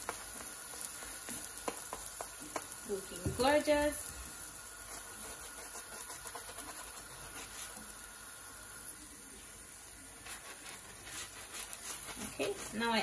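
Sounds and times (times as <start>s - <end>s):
bread sizzling in a frying pan: 0.0s - 13.0s.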